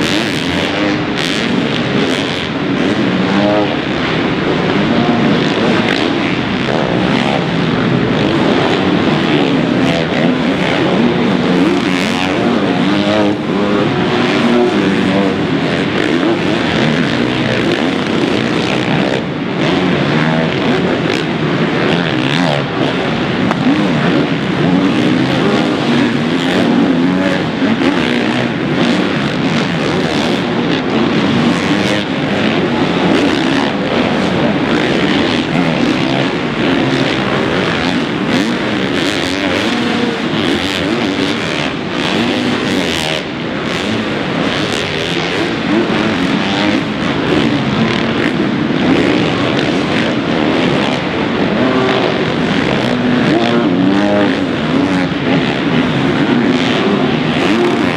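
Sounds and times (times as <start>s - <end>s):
motocross bike engines revving: 0.0s - 57.9s.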